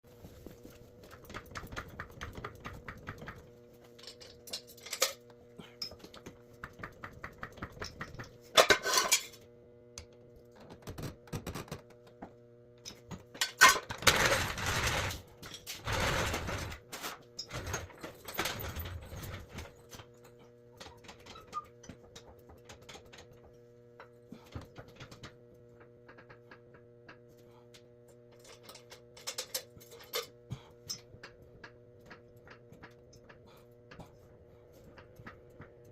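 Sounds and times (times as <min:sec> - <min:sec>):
faint steady hum: 0:00.1 - 0:35.9.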